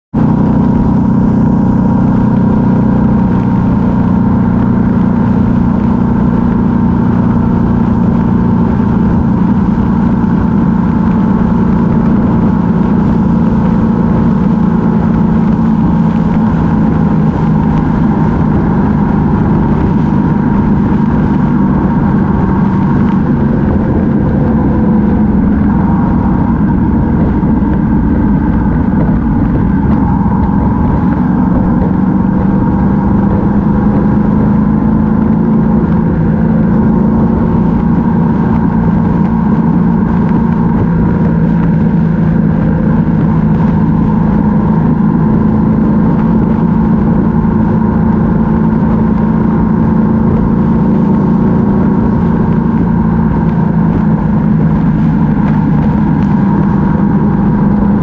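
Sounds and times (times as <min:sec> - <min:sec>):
motorcycle engine cruising: 0:00.1 - 0:58.0
road and air noise: 0:00.1 - 0:58.0.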